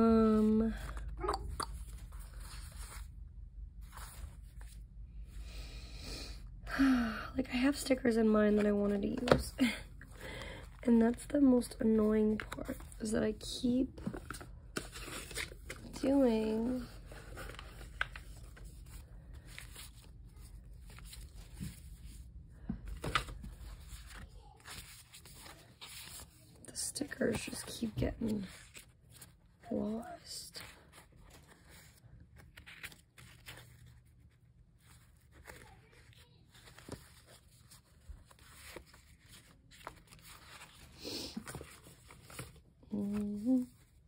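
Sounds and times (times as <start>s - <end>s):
low room hum: 0.0s - 44.0s
paper rustling: 1.8s - 4.8s, 8.4s - 13.1s, 13.8s - 44.0s.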